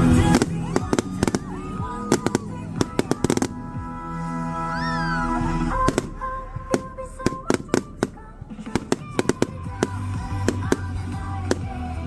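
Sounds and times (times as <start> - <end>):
fireworks popping and crackling: 0.0 - 3.7, 5.8 - 12.0
background music with held notes: 0.0 - 12.0.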